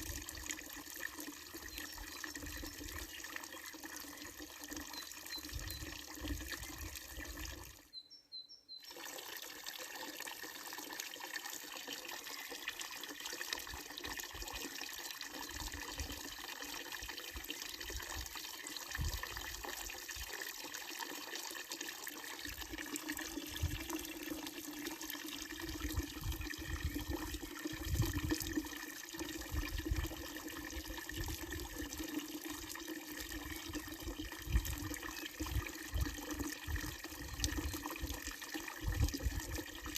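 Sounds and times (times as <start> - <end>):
water splashing into fountain basin: 0.0 - 7.8, 8.8 - 39.9.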